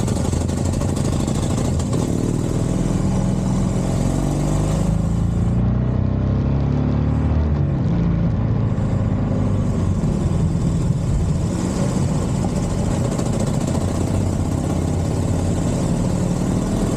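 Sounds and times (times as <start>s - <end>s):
motorcycle engine rumbling: 0.0s - 16.9s.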